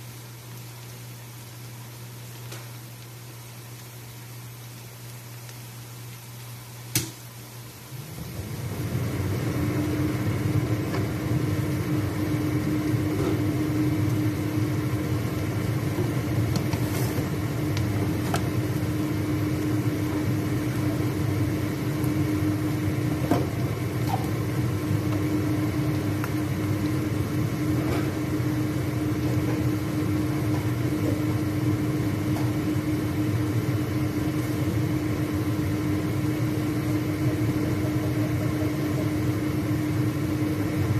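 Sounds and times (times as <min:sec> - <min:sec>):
onions frying in oil: 0:00.0 - 0:40.9
kitchen appliance motor humming: 0:07.9 - 0:40.9.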